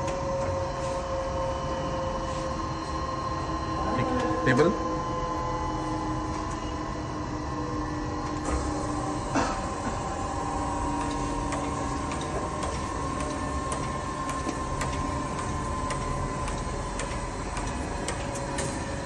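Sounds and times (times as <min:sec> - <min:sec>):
surface grinder humming and whining: 0:00.0 - 0:19.0.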